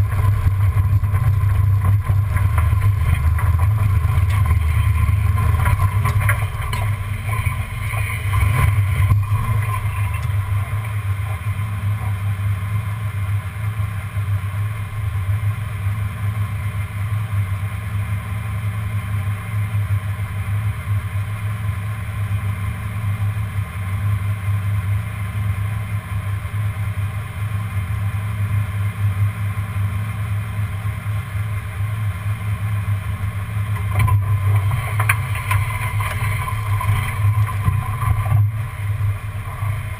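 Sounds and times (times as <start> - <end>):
truck engine low rumble: 0.0 - 39.9.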